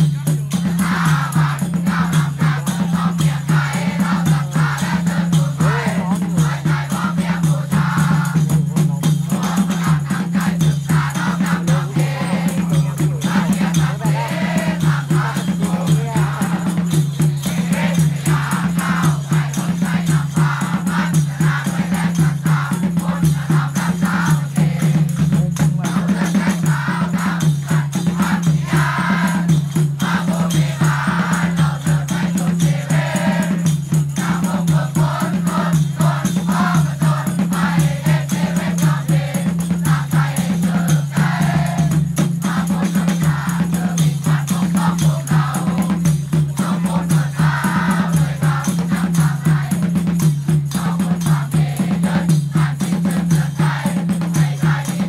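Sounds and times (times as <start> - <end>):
group singing: 0.0 - 55.0
rattling shaker percussion: 0.0 - 55.0.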